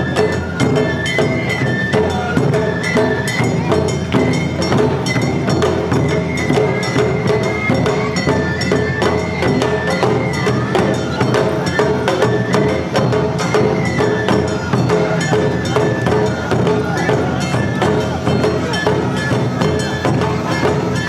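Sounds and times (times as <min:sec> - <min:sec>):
bamboo flute melody: 0:00.0 - 0:21.0
drums beating: 0:00.0 - 0:21.0
hand bell strikes: 0:00.0 - 0:21.0.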